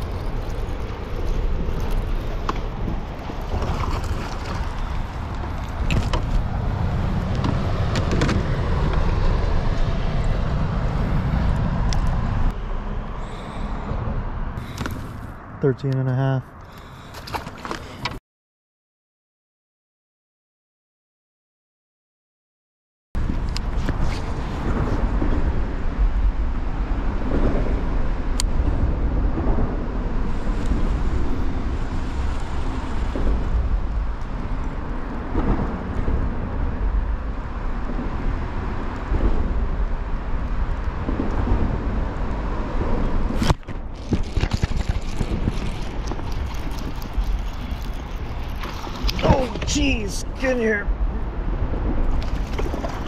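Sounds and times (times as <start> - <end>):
wind buffeting microphone: 0.0 - 15.6, 23.2 - 53.0.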